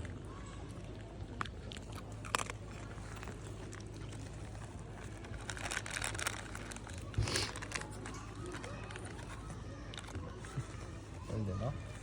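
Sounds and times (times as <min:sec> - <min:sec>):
dog chewing and crunching food: 0:00.0 - 0:12.0.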